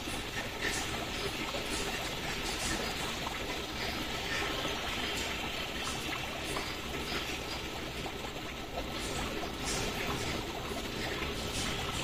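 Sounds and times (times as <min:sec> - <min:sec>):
running water trickling and splashing: 0:00.0 - 0:12.0.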